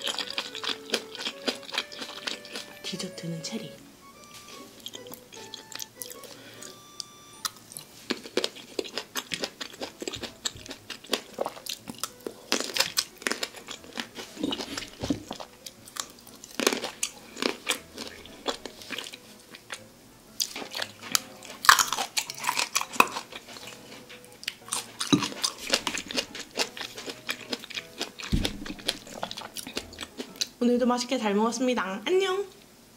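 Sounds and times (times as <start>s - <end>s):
biting and chewing cherries: 0.0s - 3.3s, 4.1s - 30.6s.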